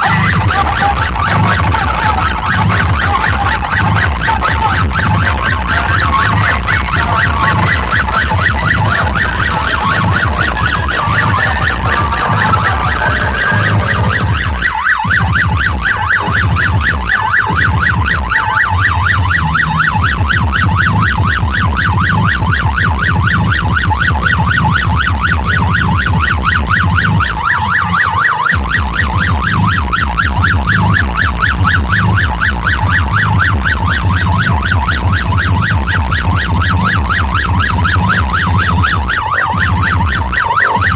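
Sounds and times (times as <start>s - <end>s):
pounding bass beat: 0.0s - 40.9s
warbling siren effect: 0.0s - 40.9s.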